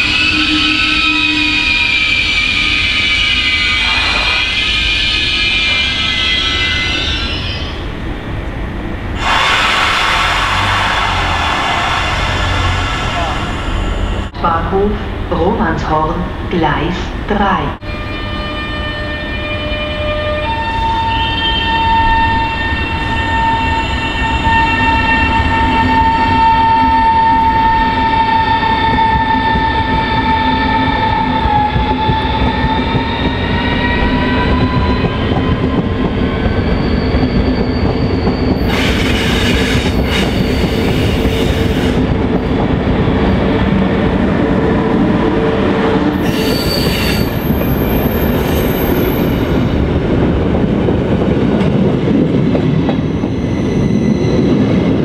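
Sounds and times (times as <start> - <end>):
train passing noisy bursts: 0.0 - 8.1, 8.8 - 15.6, 17.9 - 55.0
wheels rumbling on rails: 0.0 - 15.6, 21.7 - 55.0
train traction whine: 0.0 - 16.5, 17.8 - 55.0.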